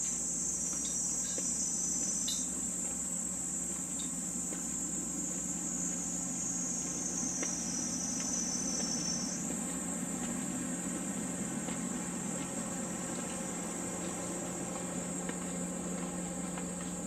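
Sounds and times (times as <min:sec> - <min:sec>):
cicadas shrilling: 0:00.0 - 0:17.0.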